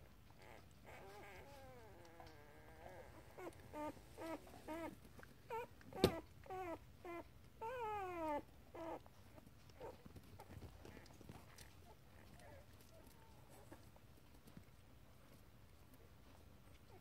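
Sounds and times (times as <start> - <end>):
puppy whining: 0.0 - 17.0
puppy growling and whimpering: 0.2 - 14.6.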